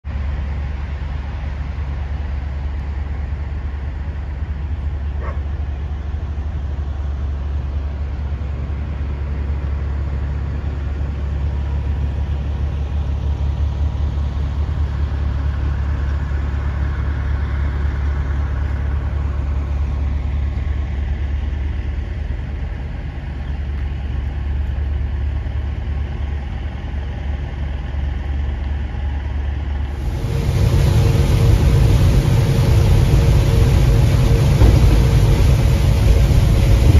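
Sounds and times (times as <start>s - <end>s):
engine and road noise in truck cab: 0.0s - 36.9s
idling trucks and traffic rumble: 0.0s - 36.9s.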